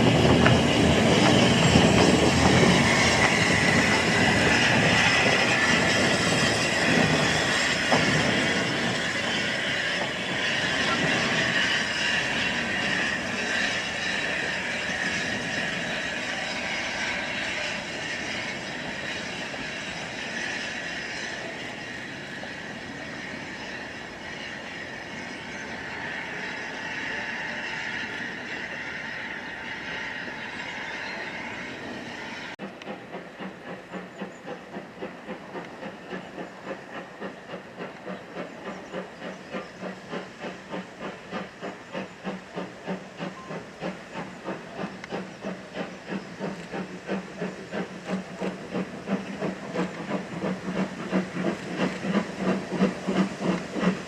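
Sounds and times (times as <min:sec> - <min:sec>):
steam locomotive chuffing: 0:00.0 - 0:54.0
steam locomotive hissing: 0:00.0 - 0:54.0.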